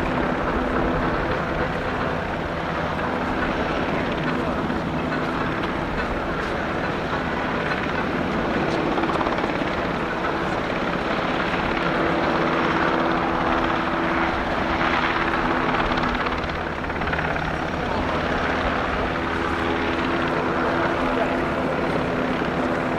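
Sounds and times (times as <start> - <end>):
helicopter rotor thrum: 0.0 - 22.9.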